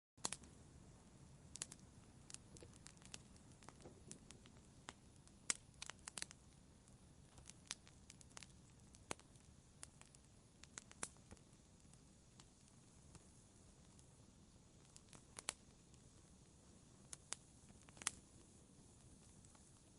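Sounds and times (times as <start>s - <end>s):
faint low hiss: 0.2s - 19.9s
wood fire crackling: 0.2s - 19.9s.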